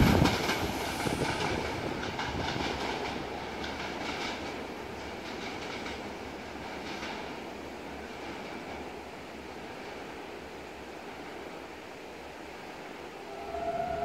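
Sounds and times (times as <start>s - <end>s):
train wheels rumbling and clattering: 0.0s - 14.0s.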